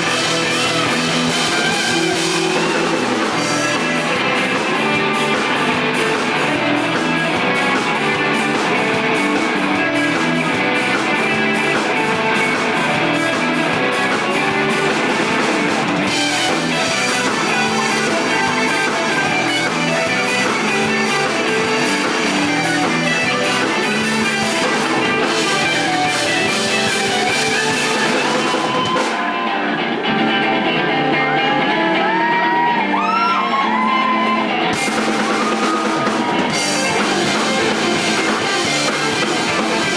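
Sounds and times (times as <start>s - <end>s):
bending guitar notes: 0.0s - 39.9s
rock band playing: 0.0s - 39.9s.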